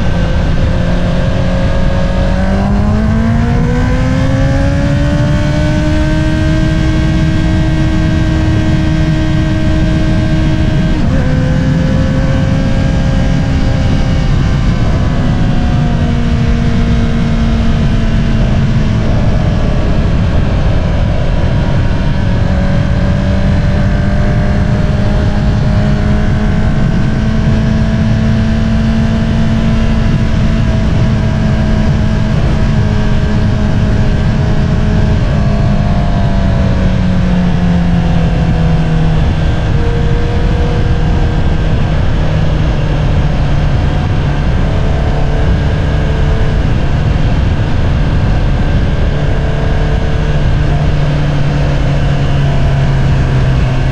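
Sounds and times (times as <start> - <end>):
motorcycle engine cruising: 0.0 - 53.9
wind noise: 0.0 - 53.9.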